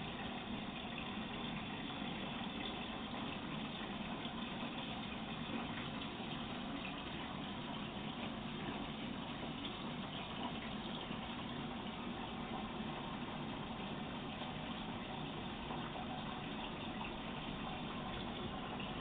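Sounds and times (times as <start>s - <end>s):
water rushing from a hose into a tank: 0.0s - 19.0s.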